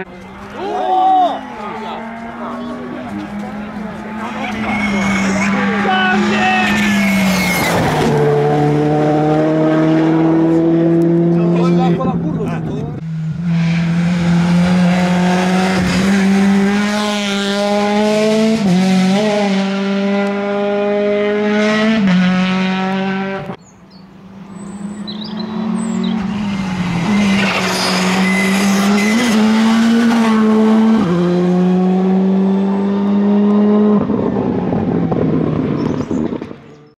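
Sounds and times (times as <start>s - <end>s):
rally car engine at high revs: 1.4s - 23.6s, 24.5s - 36.9s.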